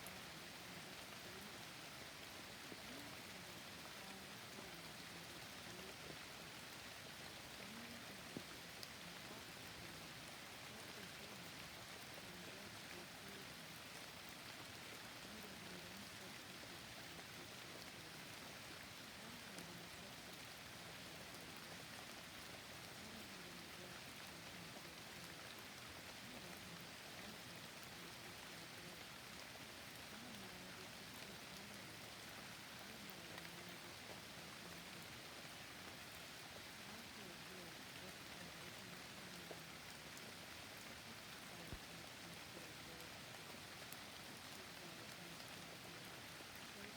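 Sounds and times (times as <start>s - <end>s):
soft steady rainfall: 0.0s - 46.9s.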